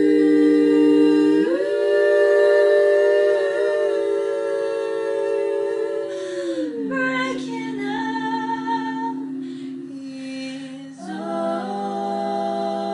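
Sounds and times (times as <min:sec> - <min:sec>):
women humming a chord: 0:00.0 - 0:12.9.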